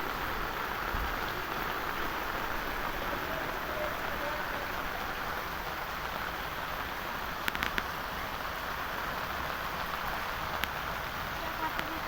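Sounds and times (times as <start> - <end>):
rain and flood water rushing: 0.0 - 12.0.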